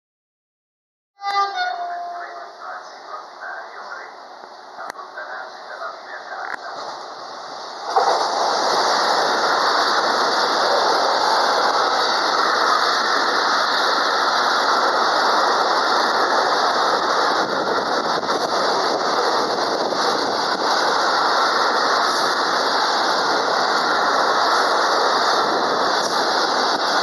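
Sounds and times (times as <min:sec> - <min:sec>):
freight train passing: 0:01.2 - 0:27.0.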